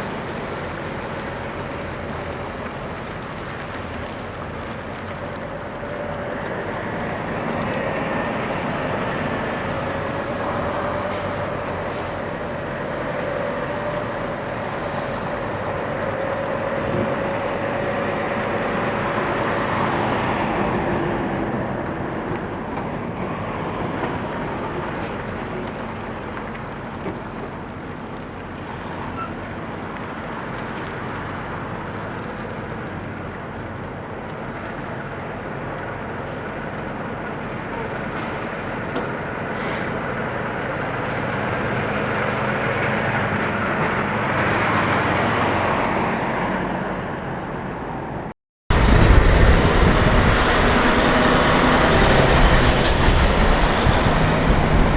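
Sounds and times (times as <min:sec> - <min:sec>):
trucks driving past: 0:00.0 - 0:54.9.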